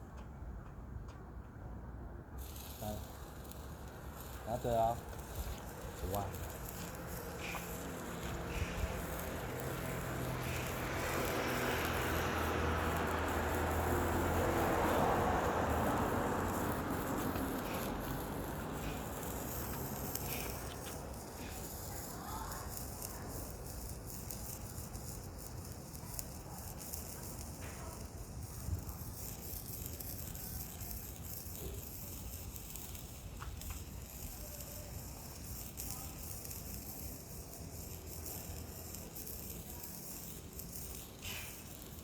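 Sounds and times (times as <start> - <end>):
sparkler fizzing and crackling: 2.4 - 42.0.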